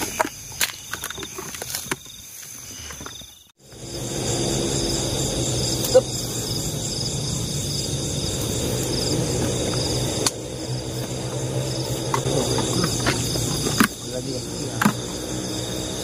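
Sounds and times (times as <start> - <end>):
crickets and insects chirping: 0.0 - 16.0.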